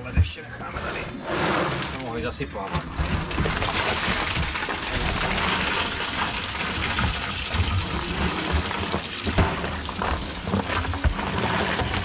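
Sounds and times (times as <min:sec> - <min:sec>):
water gushing and splashing: 0:00.9 - 0:12.0.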